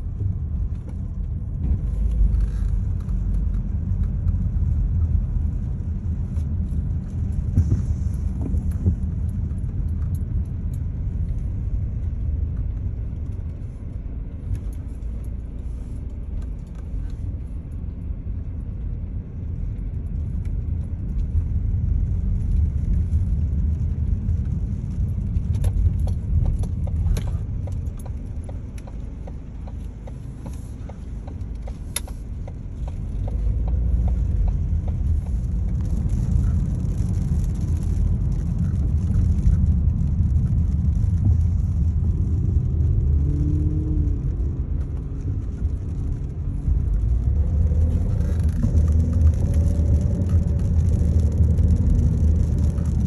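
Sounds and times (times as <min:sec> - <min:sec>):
car driving rumble: 0:00.0 - 0:53.0.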